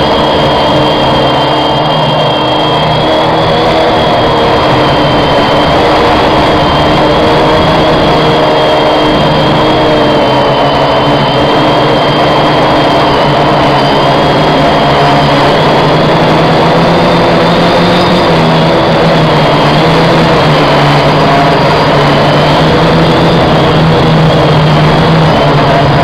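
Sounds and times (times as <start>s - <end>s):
quadcopter motors buzzing: 0.0s - 26.0s.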